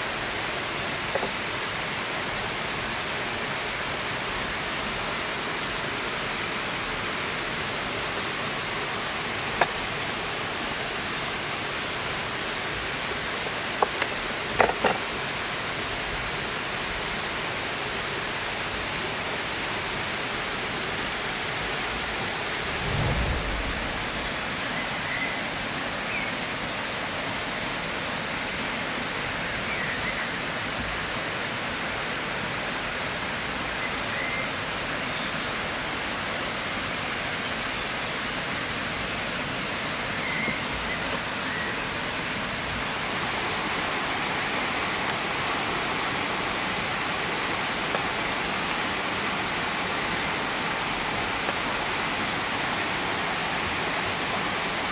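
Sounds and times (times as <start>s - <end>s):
rushing water ambience: 0.0s - 54.9s.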